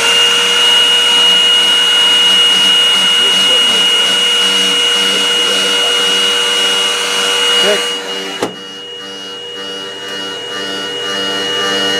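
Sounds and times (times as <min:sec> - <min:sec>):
handheld vacuum cleaner whine: 0:00.0 - 0:11.9.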